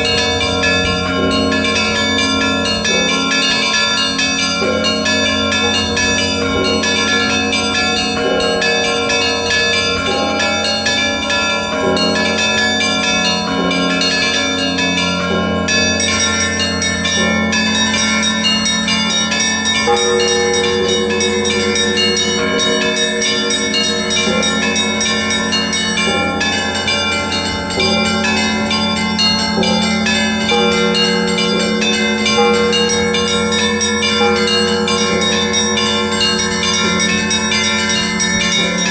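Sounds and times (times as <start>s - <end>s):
bells ringing in a peal: 0.0s - 38.9s.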